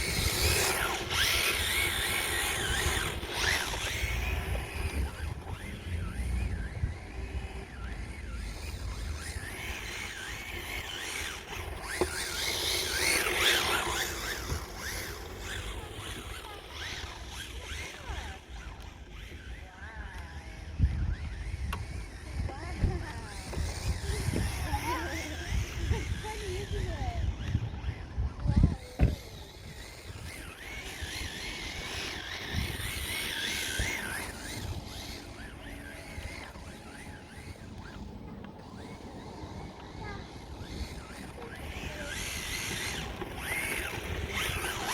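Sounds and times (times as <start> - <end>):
rc car motor whining: 0.0 - 44.9.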